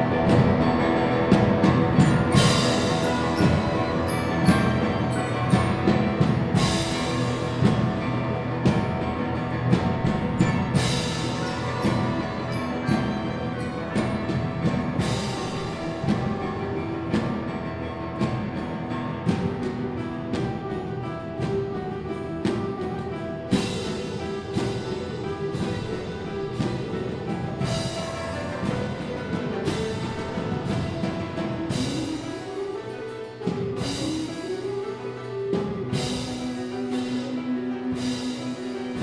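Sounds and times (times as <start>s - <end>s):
drum strikes: 0.0s - 39.0s
instrumental ensemble held tones: 0.0s - 39.0s.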